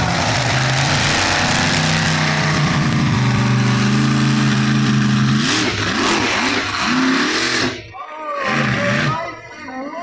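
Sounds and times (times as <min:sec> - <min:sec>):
monster truck engine revving: 0:00.0 - 0:09.5.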